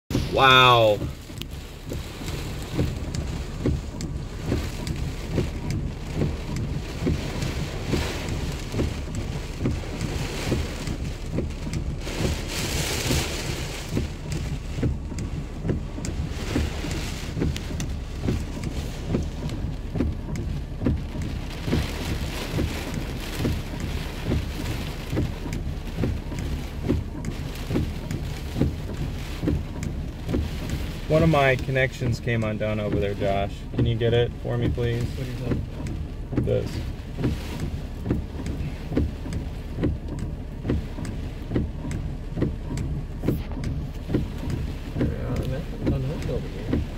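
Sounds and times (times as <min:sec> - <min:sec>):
low rumble: 0:00.0 - 0:46.9
heavy rain pouring: 0:00.1 - 0:46.9.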